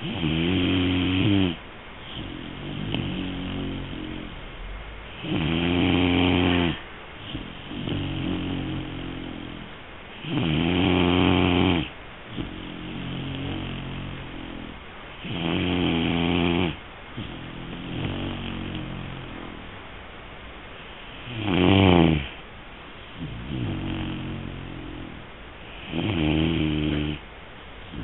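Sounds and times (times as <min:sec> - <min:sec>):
puppy snoring: 0:00.0 - 0:19.7, 0:20.7 - 0:22.4, 0:23.0 - 0:27.2.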